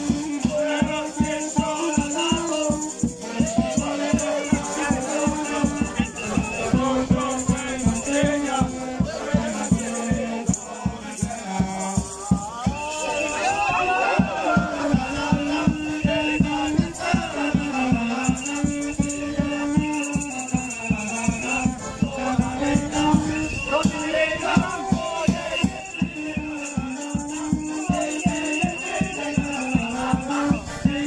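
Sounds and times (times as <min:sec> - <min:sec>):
accordion melody: 0:00.0 - 0:31.0
fast steady drum beat: 0:00.0 - 0:31.0.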